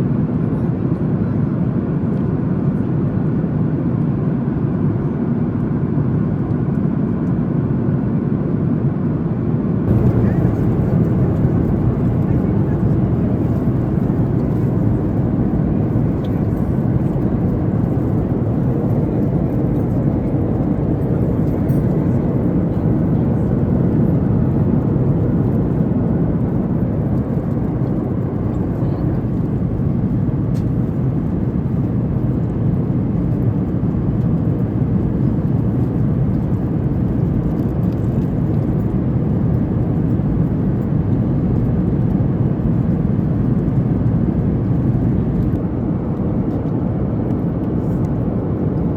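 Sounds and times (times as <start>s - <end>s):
airplane cabin noise: 0.0s - 48.9s.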